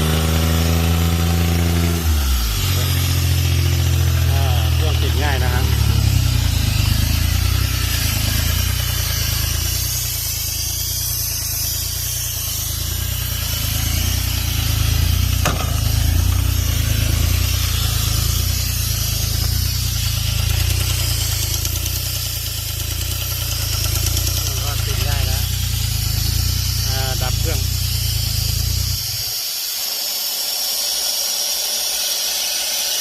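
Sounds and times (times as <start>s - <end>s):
diesel engine running: 0.0s - 29.4s.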